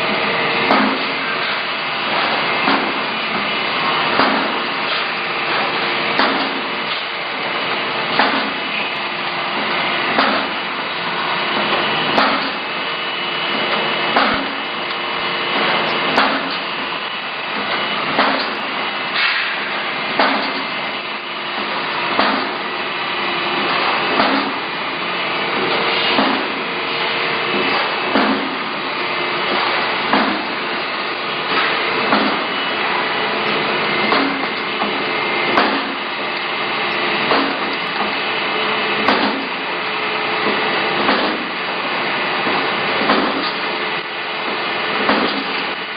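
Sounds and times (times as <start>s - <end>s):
factory machinery din: 0.0s - 45.9s.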